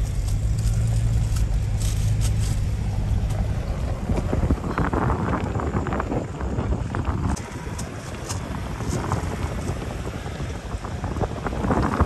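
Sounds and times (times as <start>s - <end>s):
pickup engine running: 0.0s - 12.0s
wind buffeting microphone: 0.0s - 12.0s.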